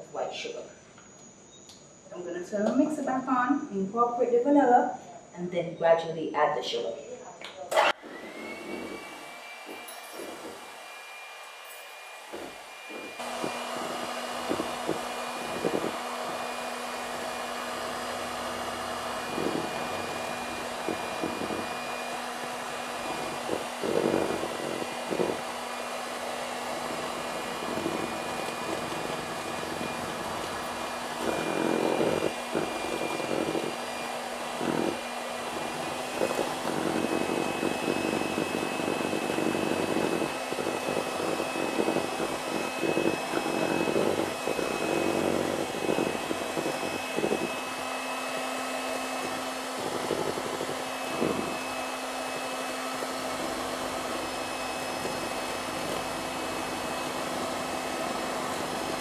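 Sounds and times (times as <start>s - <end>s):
electric hand mixer whining: 7.7s - 59.0s.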